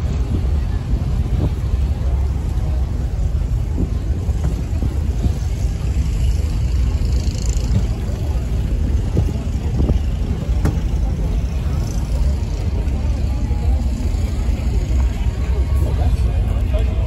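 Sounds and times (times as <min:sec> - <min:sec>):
faint crowd chatter: 0:00.0 - 0:17.0
steady low rumble: 0:00.0 - 0:17.0.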